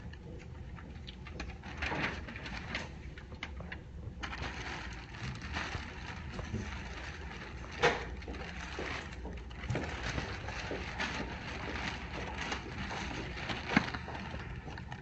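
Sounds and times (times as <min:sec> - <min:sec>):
plastic bag crinkling: 0:01.1 - 0:15.0.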